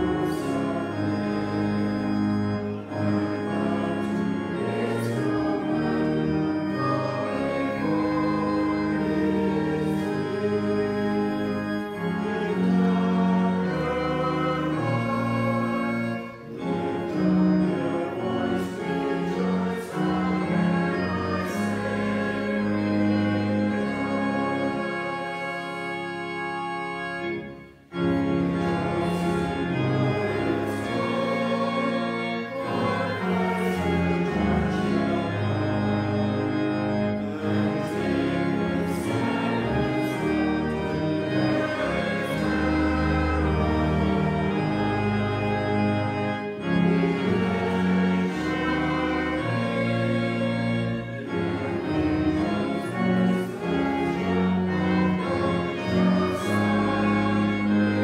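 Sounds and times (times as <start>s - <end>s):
choir singing a hymn: 0.0s - 58.0s
organ accompaniment: 0.0s - 58.0s.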